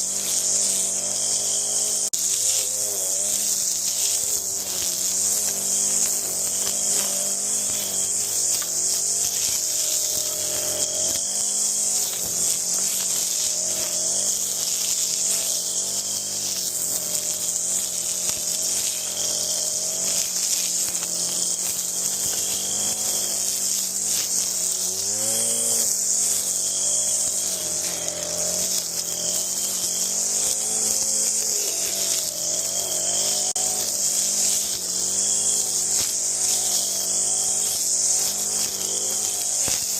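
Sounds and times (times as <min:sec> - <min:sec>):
string trimmer engine revving: 0:00.0 - 0:39.9.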